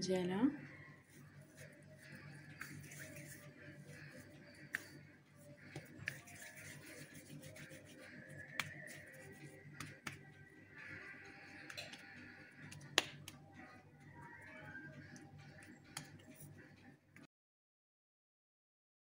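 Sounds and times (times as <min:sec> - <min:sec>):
hands kneading dough: 0:00.7 - 0:16.8.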